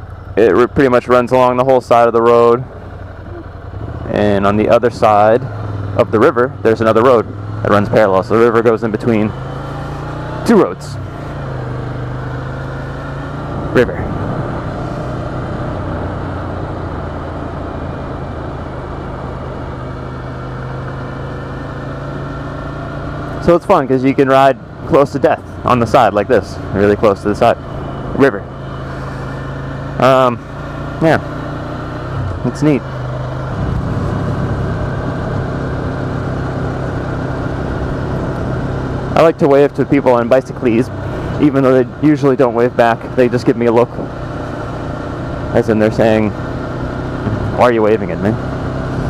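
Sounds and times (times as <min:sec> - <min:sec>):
motorcycle engine at low speed: 0:00.0 - 0:49.0.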